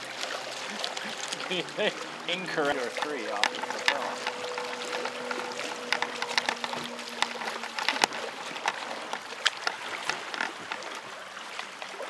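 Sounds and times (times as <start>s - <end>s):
waves slapping boat hull: 0.0s - 12.0s.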